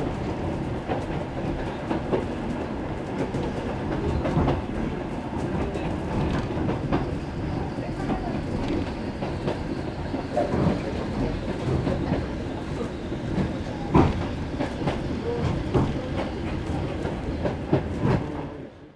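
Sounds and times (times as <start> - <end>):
wheels rumbling on rails: 0.0 - 18.5.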